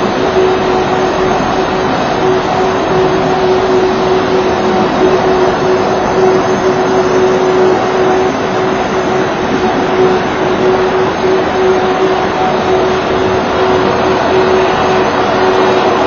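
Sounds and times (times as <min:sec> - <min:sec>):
mechanical drone: 0:00.0 - 0:16.0.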